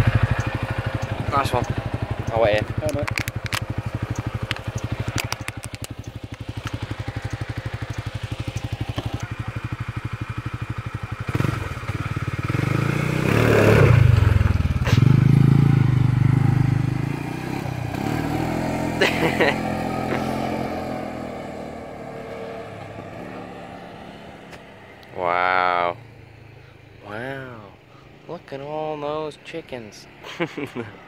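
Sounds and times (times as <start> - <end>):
quad bike engine revving: 0.0 - 26.5.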